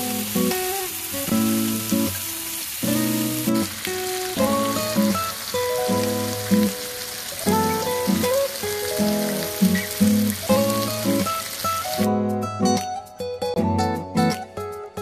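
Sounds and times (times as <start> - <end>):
steaks sizzling in a pan: 0.0 - 12.2
background music: 0.0 - 15.0.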